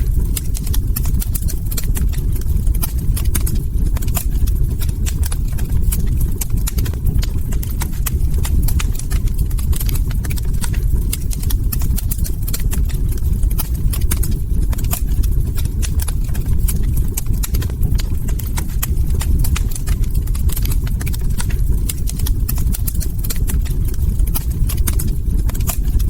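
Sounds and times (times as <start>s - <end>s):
log fire crackling: 0.0s - 26.0s.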